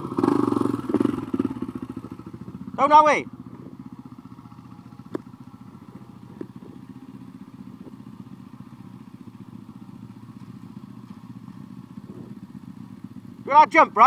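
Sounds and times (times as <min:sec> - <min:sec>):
motorbike engine idling: 0:00.0 - 0:14.0.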